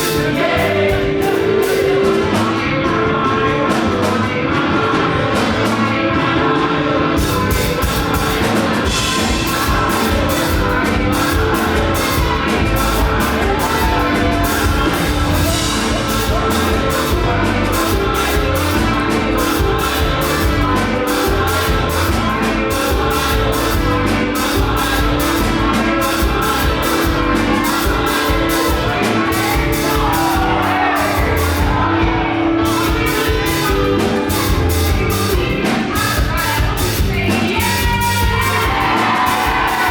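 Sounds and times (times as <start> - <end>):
gospel band playing: 0.0 - 39.9
voices singing: 0.0 - 39.9.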